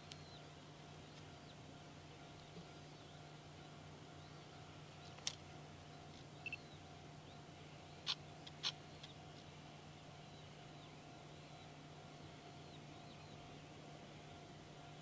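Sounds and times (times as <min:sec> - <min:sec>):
bird chirps: 0:00.0 - 0:05.2, 0:05.8 - 0:13.7
faint steady hum: 0:00.0 - 0:15.0.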